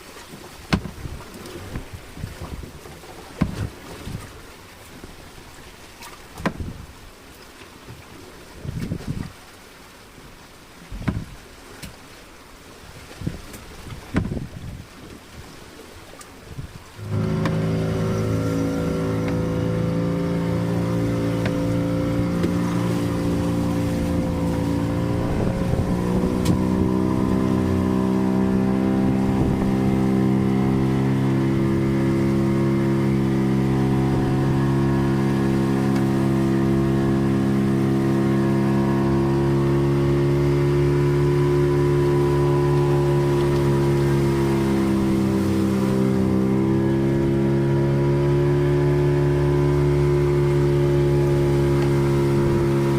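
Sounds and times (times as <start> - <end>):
boat engine running: 0.0 - 9.3, 16.3 - 52.9.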